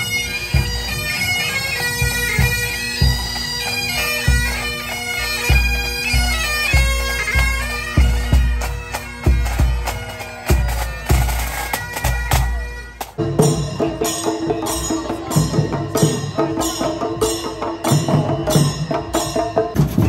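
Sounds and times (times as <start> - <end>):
bagpipes playing over drones: 0.0 - 20.0
street drum band percussion: 0.0 - 20.0.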